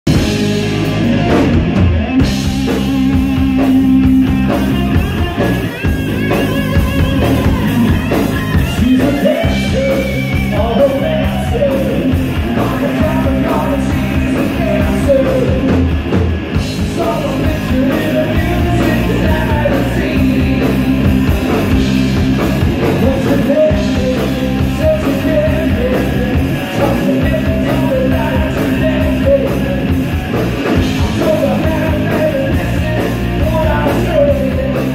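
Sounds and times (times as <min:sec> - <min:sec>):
drums: 0:00.0 - 0:34.9
electric bass: 0:00.0 - 0:34.9
electric guitar: 0:00.1 - 0:34.9.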